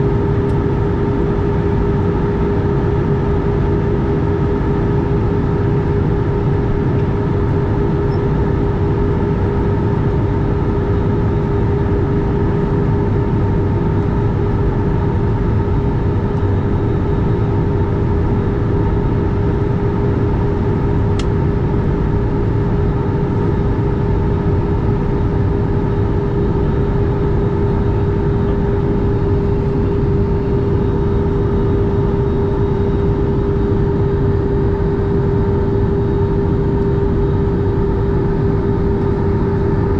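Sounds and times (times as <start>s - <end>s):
jet engine drone and airflow: 0.0s - 39.9s.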